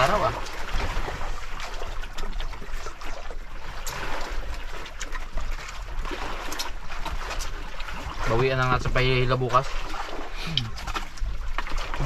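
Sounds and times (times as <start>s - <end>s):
water sloshing against boat hull: 0.0s - 12.0s.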